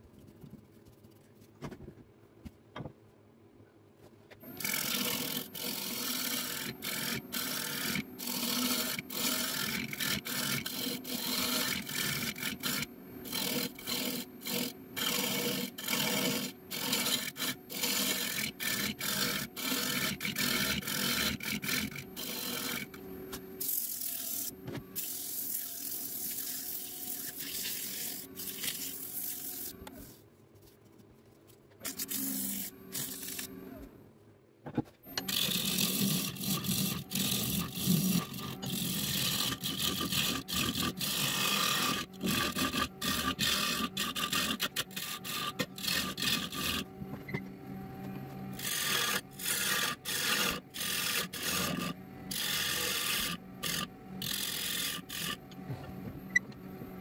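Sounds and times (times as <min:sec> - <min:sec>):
lathe tool scraping wood: 0:04.5 - 0:23.0, 0:23.6 - 0:30.2, 0:31.8 - 0:33.6, 0:35.1 - 0:47.0, 0:48.5 - 0:56.0.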